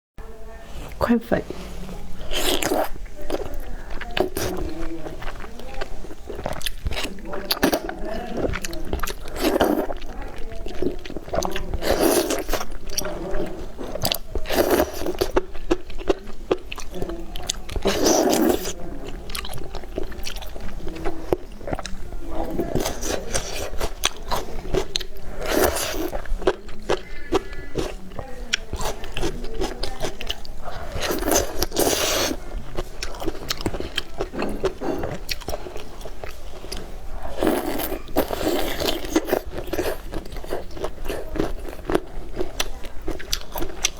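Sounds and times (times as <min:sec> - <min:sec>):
chewing: 0:00.5 - 0:43.9.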